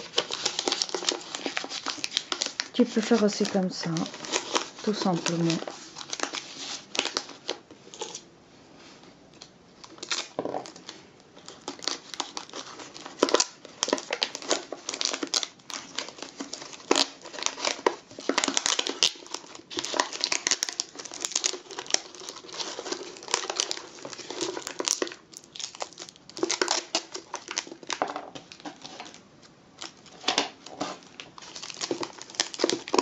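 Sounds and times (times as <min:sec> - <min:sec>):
wrapping paper crinkling: 0:00.0 - 0:08.3, 0:09.3 - 0:33.0.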